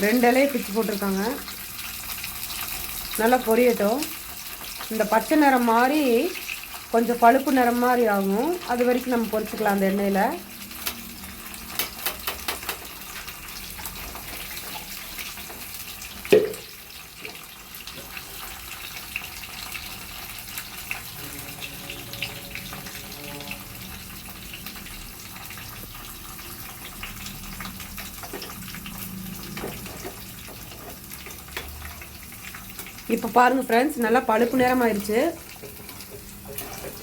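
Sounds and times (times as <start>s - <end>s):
leaves sizzling in hot oil: 0.0s - 37.0s.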